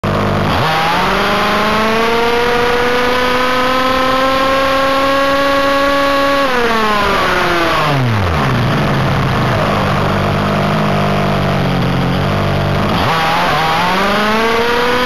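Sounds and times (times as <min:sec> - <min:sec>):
two-stroke engine at full throttle: 0:00.0 - 0:15.0.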